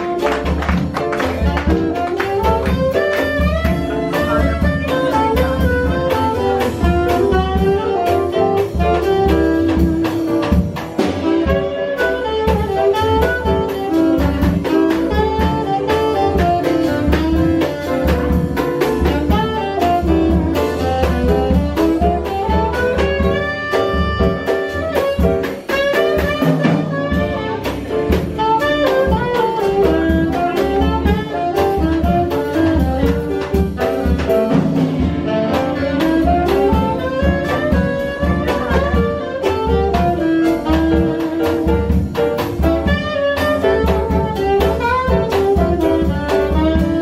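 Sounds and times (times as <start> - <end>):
jazz band playing: 0.0 - 47.0
saxophone melody: 0.0 - 47.0.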